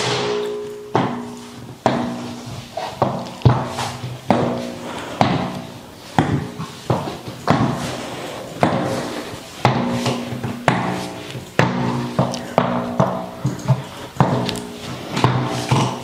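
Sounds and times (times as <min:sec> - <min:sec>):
high heels clicking on wood floor: 0:00.9 - 0:16.0.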